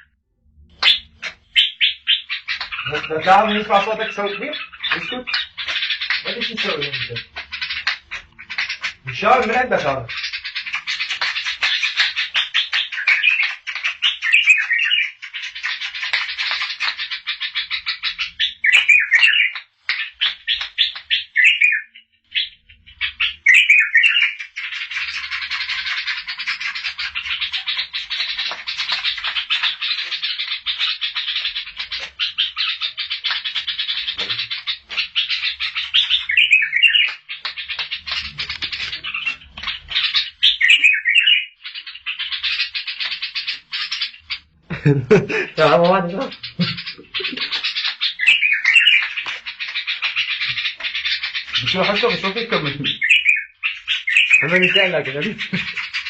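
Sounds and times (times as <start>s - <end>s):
bird singing chattering song: 0.0s - 56.0s.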